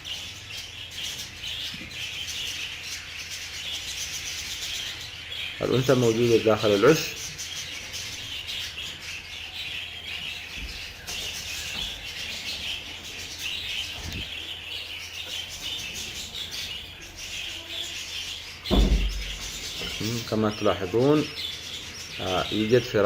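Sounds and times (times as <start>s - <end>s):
budgerigars chirping: 0.0s - 23.0s.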